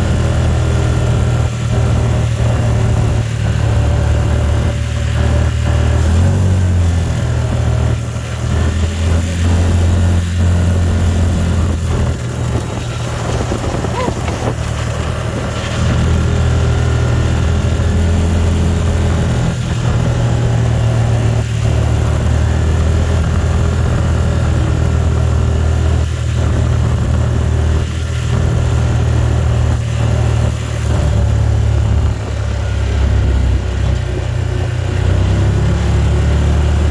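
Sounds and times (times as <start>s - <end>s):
car engine and road hum: 0.0s - 36.9s.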